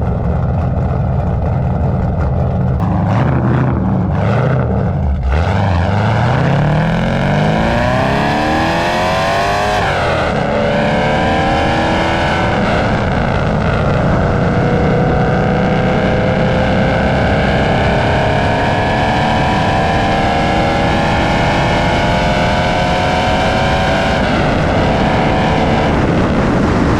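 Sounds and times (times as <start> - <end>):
loud car exhaust accelerating: 0.0 - 26.9.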